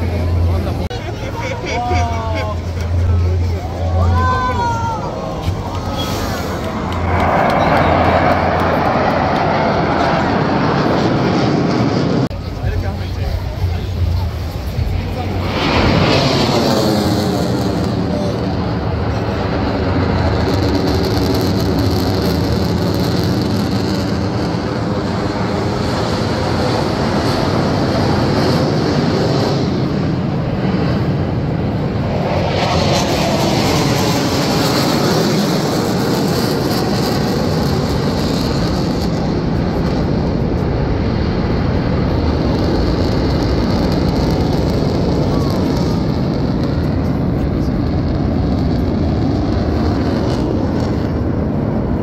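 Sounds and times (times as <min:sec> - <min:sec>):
jet aircraft flying overhead: 0:00.0 - 0:52.0.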